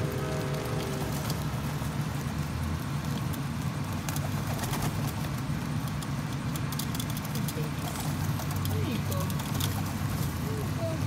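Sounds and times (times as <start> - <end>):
pigeon wings and feet pattering: 0.0 - 11.0.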